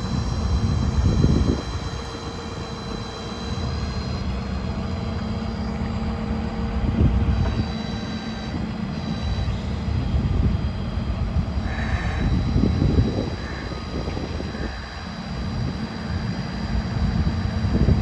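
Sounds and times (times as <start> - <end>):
thin high whine: 0.0 - 18.0
truck engine drone: 0.0 - 18.0.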